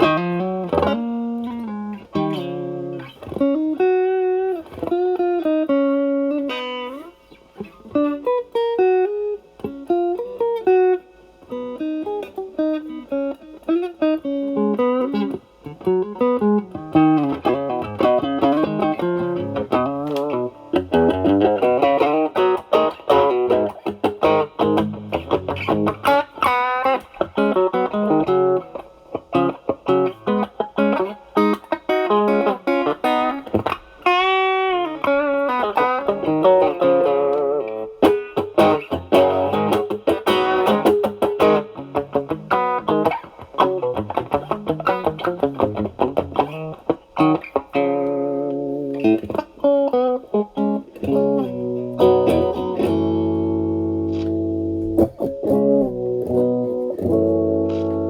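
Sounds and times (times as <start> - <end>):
overdriven electric guitar lead: 0.0 - 58.0.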